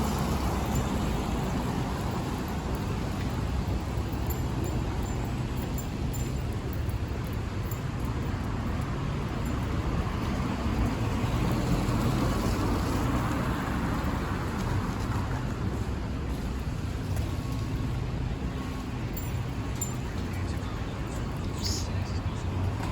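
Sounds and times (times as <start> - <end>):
traffic passing: 0.0 - 22.9
vehicle engine humming: 0.0 - 22.9.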